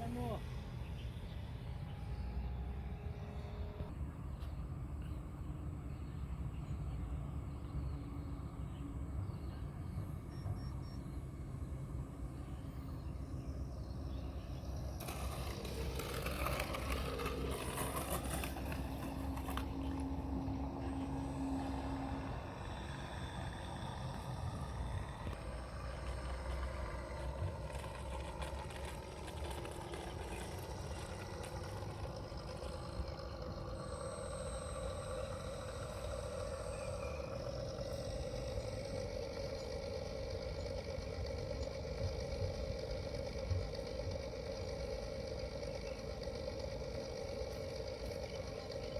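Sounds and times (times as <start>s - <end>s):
engine-like drone: 0.0s - 48.9s.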